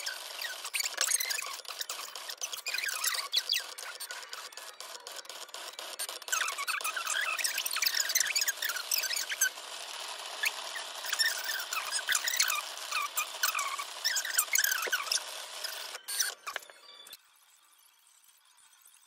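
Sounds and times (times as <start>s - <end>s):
vinyl cutting machine squeaking: 0.0s - 17.2s.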